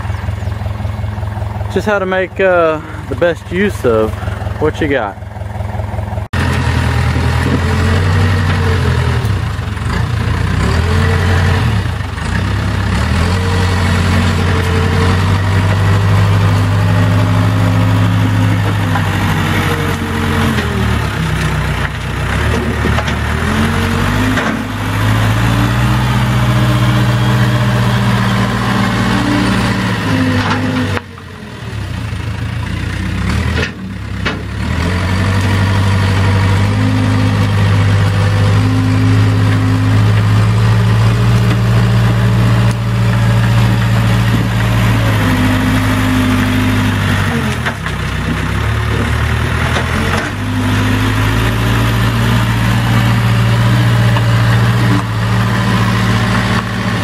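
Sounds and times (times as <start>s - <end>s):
loader bucket pushing brush: 0.0s - 31.9s, 33.0s - 57.0s
diesel engine running: 0.0s - 57.0s.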